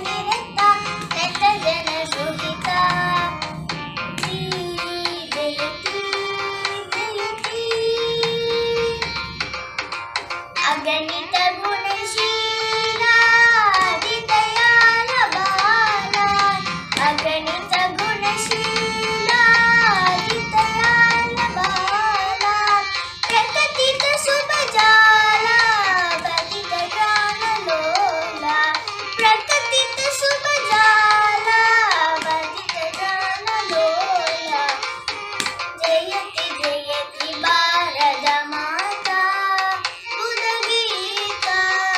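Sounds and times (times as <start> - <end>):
girl singing: 0.0 - 9.5, 10.5 - 41.9.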